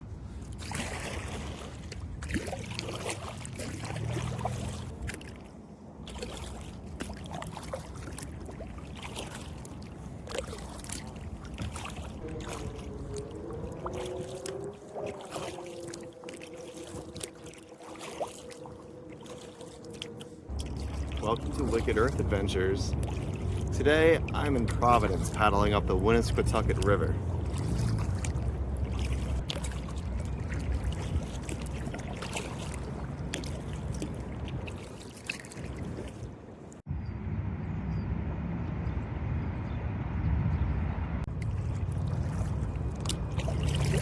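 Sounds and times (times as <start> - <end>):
kayak paddle strokes in water: 0.0 - 36.8, 41.3 - 44.0
water splashes and drips: 0.0 - 36.9, 41.3 - 44.0.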